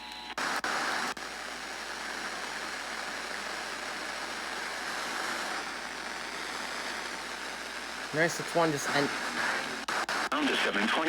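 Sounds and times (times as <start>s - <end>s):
radio static hiss: 0.4s - 11.0s.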